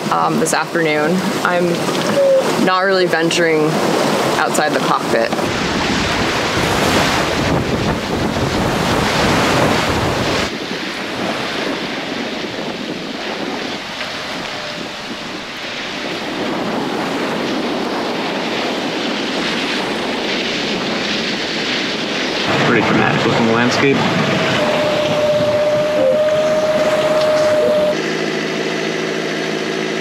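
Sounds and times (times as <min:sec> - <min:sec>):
wind buffeting microphone: 0:00.0 - 0:29.5
water rushing and splashing: 0:00.0 - 0:30.0.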